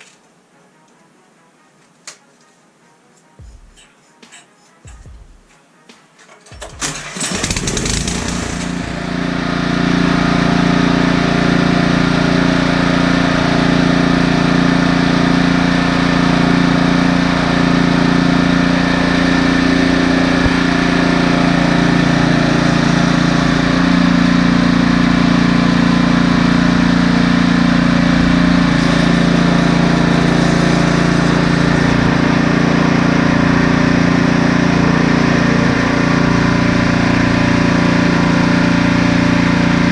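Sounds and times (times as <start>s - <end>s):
snowblower engine running: 6.8s - 39.9s.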